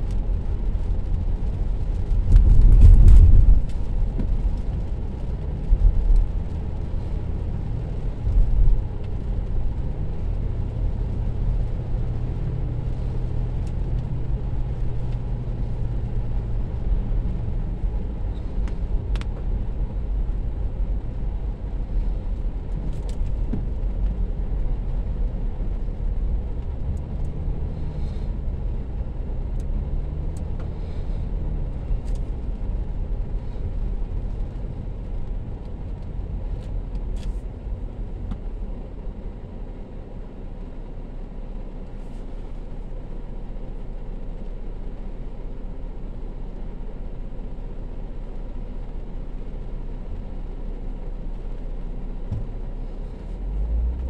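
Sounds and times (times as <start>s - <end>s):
car engine: 0.0s - 54.0s
tyres on wet road: 0.0s - 54.0s.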